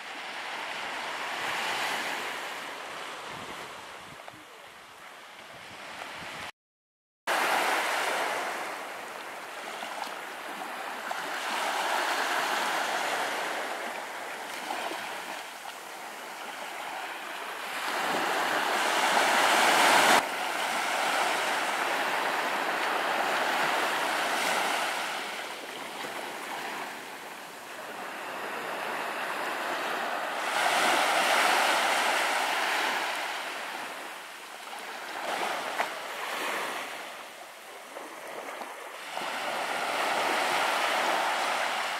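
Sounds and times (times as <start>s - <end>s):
small waves on sandy beach: 0.0s - 6.5s, 7.3s - 41.9s.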